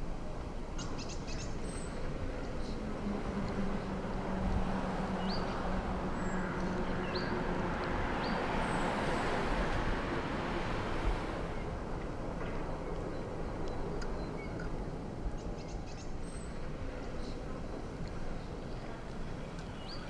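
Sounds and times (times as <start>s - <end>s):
steady rushing noise: 1.5s - 20.0s.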